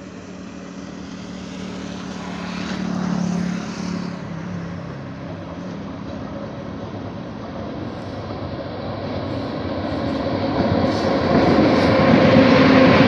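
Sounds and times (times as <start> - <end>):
electric train approaching: 0.0 - 13.0.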